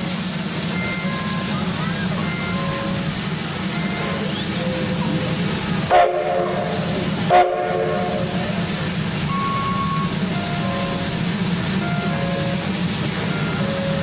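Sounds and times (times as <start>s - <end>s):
steady background hiss: 0.0s - 14.0s
steam locomotive whistle blasts: 0.8s - 3.1s, 3.7s - 11.2s, 11.8s - 14.0s.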